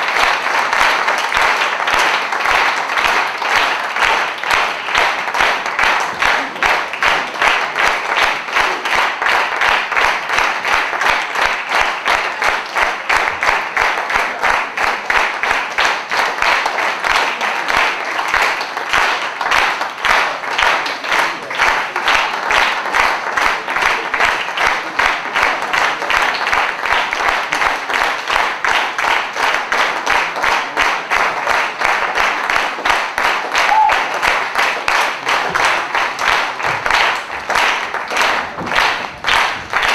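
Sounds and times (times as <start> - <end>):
audience clapping in rhythm: 0.0 - 39.9.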